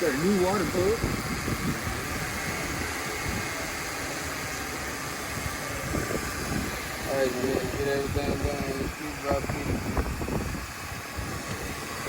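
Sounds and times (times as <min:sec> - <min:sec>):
car engine idling: 0:00.0 - 0:12.0
even hiss: 0:00.0 - 0:12.0.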